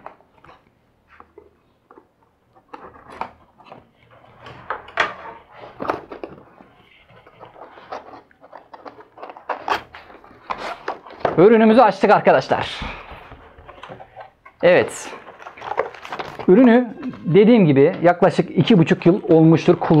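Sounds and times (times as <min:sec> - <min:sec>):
cardboard and packaging rustling: 0:00.0 - 0:20.0.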